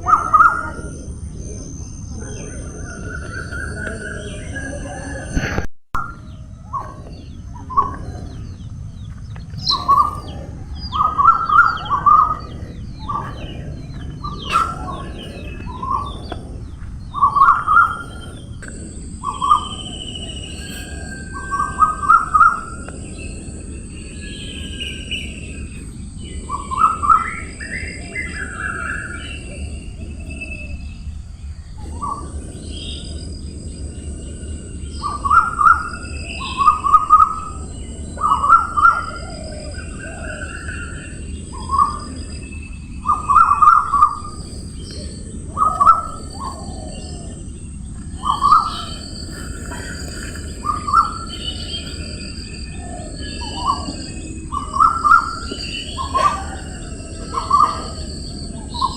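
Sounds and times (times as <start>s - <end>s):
faint high bird calls: 0.0s - 58.9s
steady low rumble: 0.0s - 58.9s.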